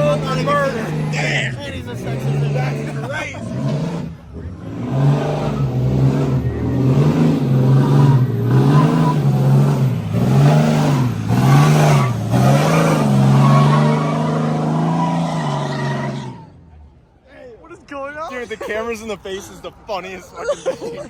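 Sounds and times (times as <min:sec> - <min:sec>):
pickup truck engine revving: 0:00.0 - 0:17.0.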